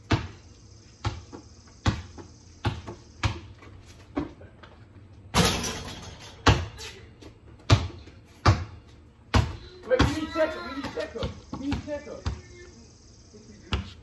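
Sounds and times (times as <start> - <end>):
basketball bouncing on concrete: 0.0 - 4.8, 5.4 - 12.7, 13.6 - 14.0.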